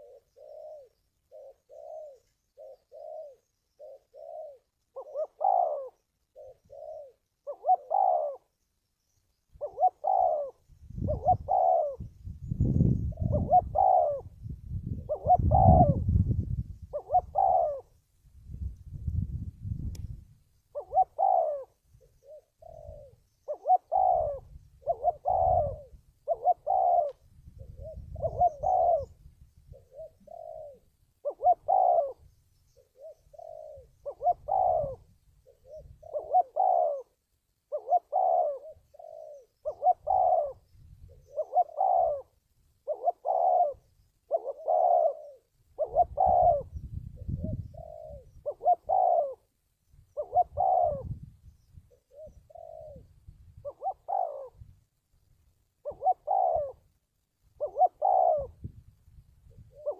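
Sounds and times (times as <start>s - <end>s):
dove cooing: 0.0s - 8.6s, 9.5s - 18.0s, 20.7s - 54.8s, 55.8s - 58.8s, 59.5s - 59.9s.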